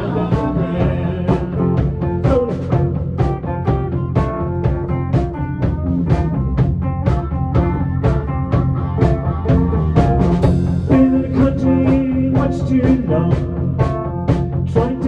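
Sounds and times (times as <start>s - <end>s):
drum kit beat: 0.0s - 15.0s
rock band playing: 0.0s - 15.0s.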